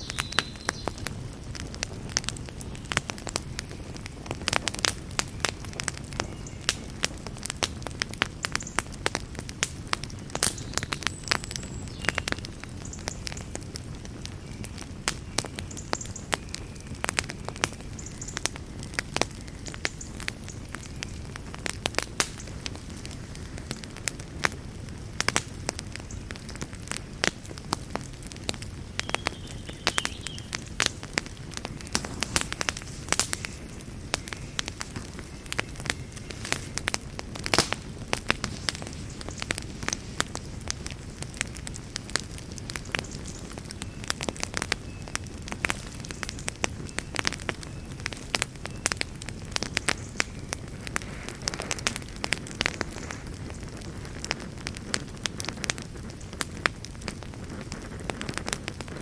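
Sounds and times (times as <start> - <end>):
campfire crackling and popping: 0.0 - 59.0
low rush of flame: 0.1 - 11.0, 16.9 - 59.0.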